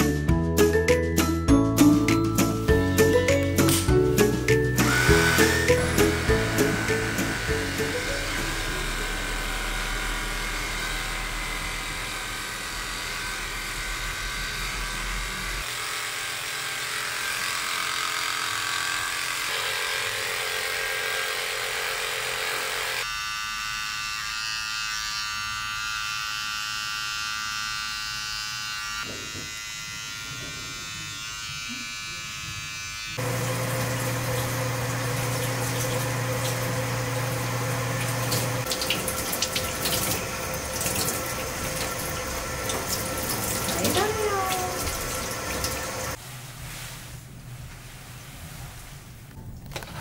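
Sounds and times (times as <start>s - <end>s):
hair clipper buzzing: 2.1s - 46.2s.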